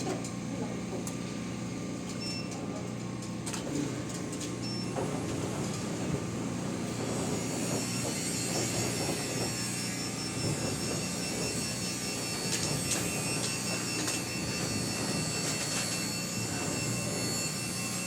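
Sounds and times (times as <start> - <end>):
garage door motor hum: 0.0 - 18.0.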